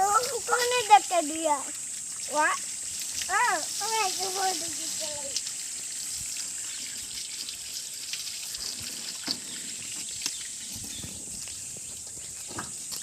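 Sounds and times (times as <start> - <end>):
water trickling and dripping: 0.0 - 13.0.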